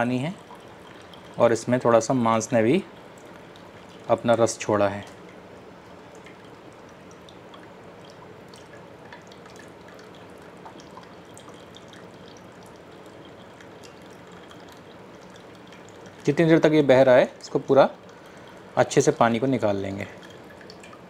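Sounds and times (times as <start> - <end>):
drips splashing into liquid: 0.0 - 21.0
liquid trickling through strainer: 0.0 - 21.0.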